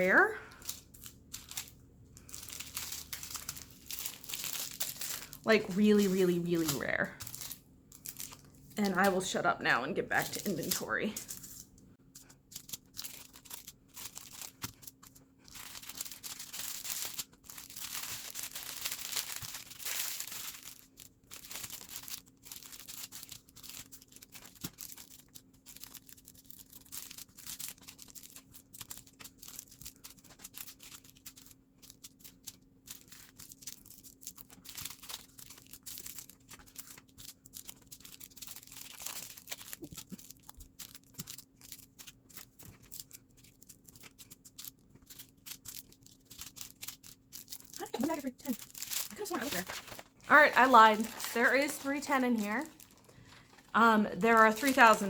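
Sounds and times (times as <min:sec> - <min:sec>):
plastic bags crinkling: 0:00.0 - 0:55.0.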